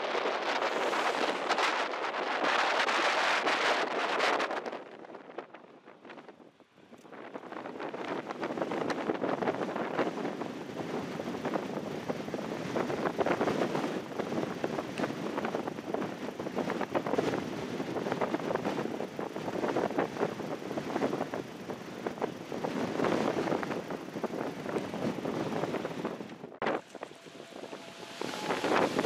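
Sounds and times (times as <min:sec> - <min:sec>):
gusty wind on microphone: 0:00.0 - 0:29.0.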